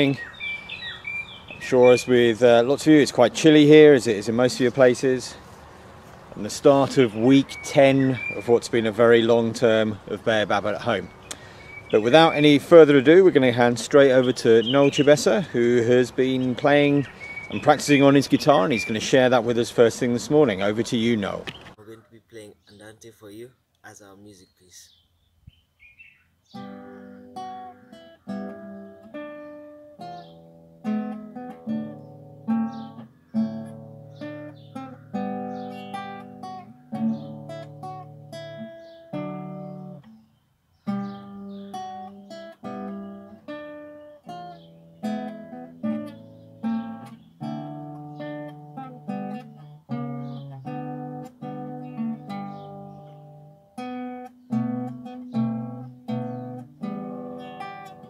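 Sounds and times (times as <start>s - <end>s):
classical guitar melody: 0.0s - 21.8s, 26.5s - 58.0s.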